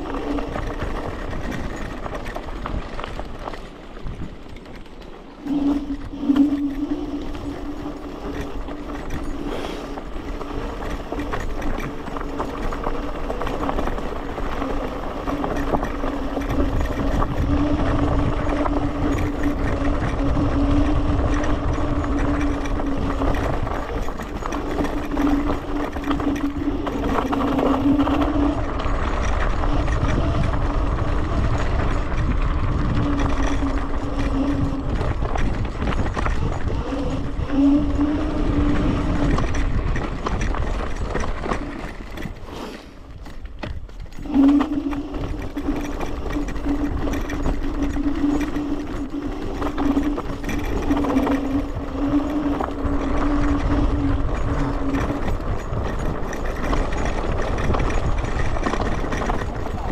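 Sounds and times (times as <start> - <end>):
electric scooter motor whine: 0.0 - 59.9
rumbling wind: 0.0 - 59.9
tyre noise: 0.0 - 59.9.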